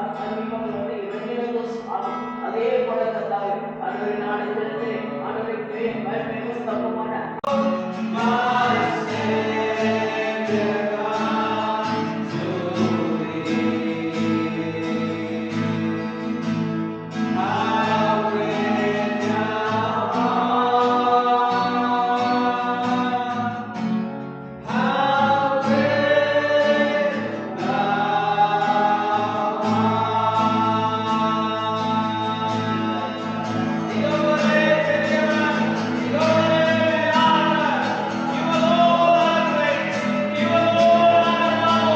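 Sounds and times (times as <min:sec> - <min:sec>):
voices singing worship song: 0:00.0 - 0:41.9.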